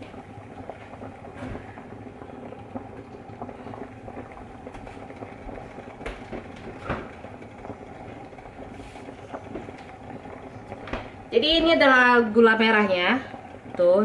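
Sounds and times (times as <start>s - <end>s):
food sizzling and bubbling: 0.0s - 14.0s.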